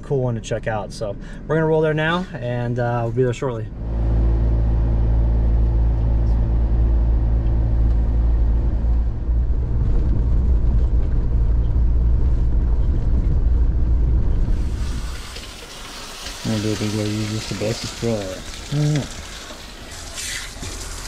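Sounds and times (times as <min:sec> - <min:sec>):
road and engine rumble in cab: 0:00.0 - 0:21.0.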